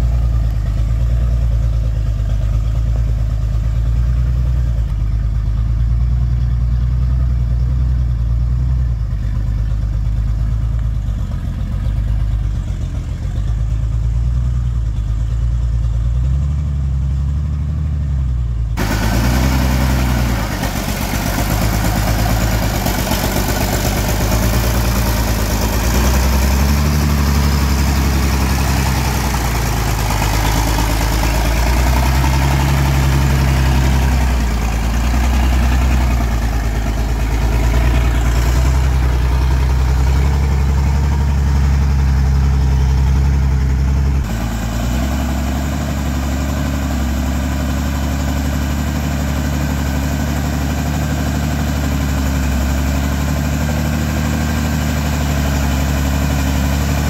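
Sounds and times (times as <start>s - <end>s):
truck engine running under load: 0.0s - 57.0s.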